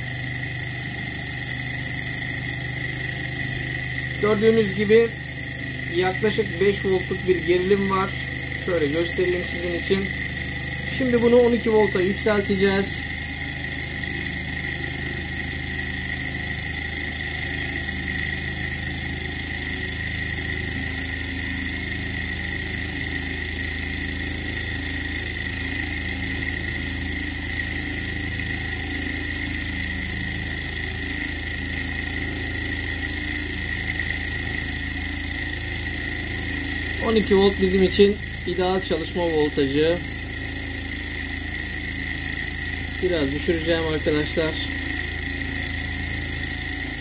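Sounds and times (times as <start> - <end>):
high motor whine: 0.0 - 47.0
stirling engine running: 0.0 - 47.0.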